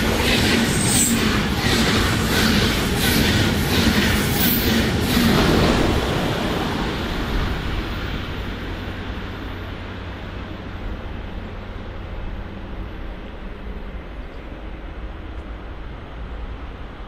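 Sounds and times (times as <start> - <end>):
high-speed train rolling: 0.0 - 17.0.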